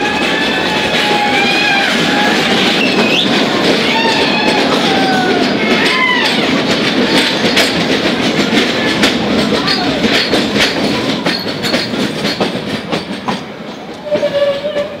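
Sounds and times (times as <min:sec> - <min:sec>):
train wheels clattering over rail joints: 0:00.0 - 0:15.0.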